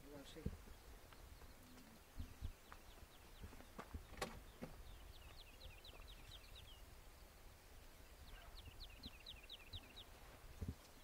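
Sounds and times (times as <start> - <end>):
small songbird singing faintly: 0.0 - 11.0.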